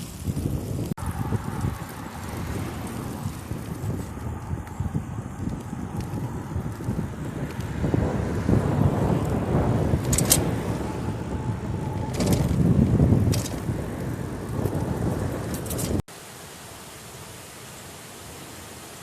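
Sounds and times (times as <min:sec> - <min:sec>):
wind buffeting microphone: 0:00.0 - 0:16.1.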